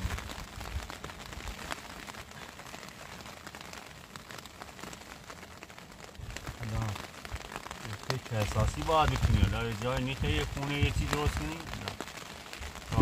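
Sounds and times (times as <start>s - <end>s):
rain falling on a fabric tent: 0.0s - 13.0s.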